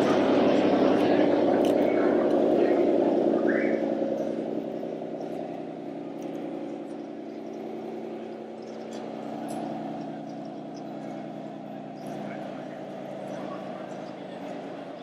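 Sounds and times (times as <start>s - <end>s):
model truck engine drone: 0.0s - 15.0s.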